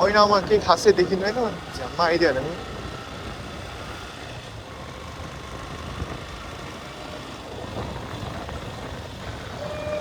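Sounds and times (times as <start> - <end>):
motorcycle engine running: 0.0 - 10.0
road rumble: 0.0 - 10.0.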